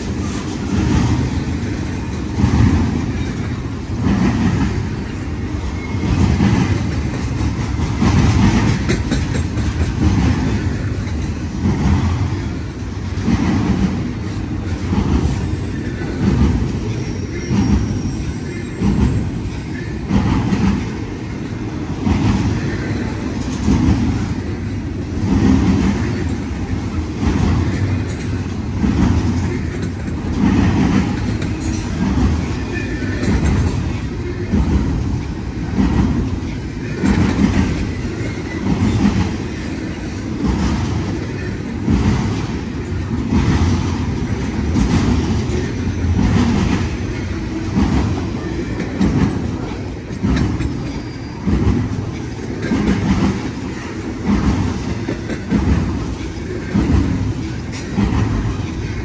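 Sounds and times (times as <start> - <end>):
freight train rolling past: 0.0 - 59.0
wheels clickety-clack on rails: 0.0 - 59.0.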